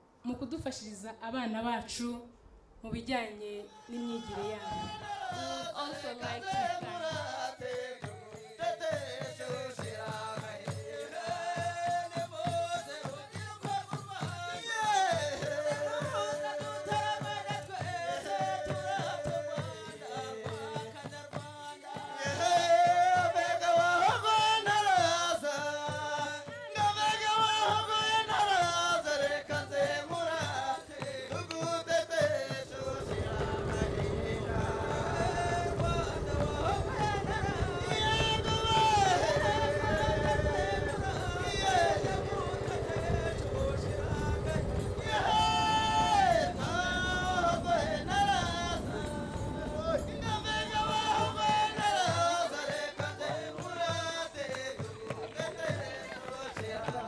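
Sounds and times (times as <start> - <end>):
steady percussion beat: 3.9 - 57.0.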